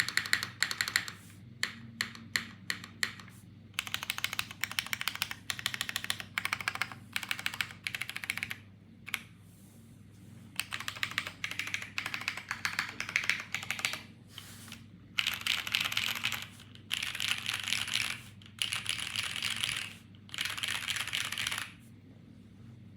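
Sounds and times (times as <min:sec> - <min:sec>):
mechanical keyboard keys clacking: 0:00.0 - 0:09.2, 0:10.6 - 0:14.0, 0:15.2 - 0:21.7.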